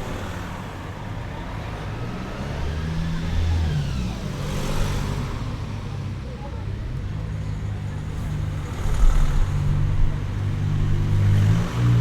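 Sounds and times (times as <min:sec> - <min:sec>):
road traffic noise: 0:00.0 - 0:12.0
vehicle engine rumble: 0:00.0 - 0:12.0.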